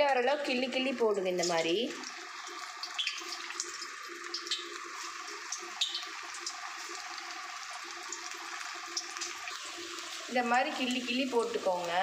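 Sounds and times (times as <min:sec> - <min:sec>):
hot oil sizzling: 0:00.0 - 0:12.0
oil crackles and pops: 0:00.0 - 0:12.0.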